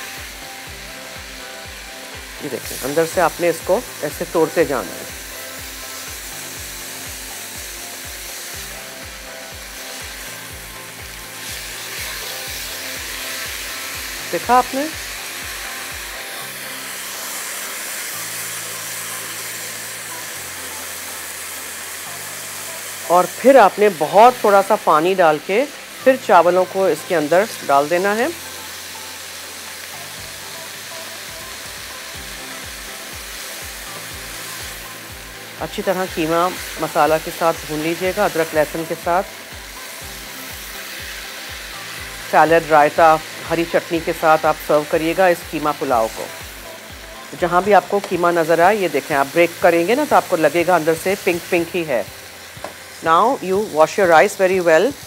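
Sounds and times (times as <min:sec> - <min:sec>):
background music with steady beat: 0:00.0 - 0:55.0
meat sizzling in a pot: 0:00.0 - 0:55.0.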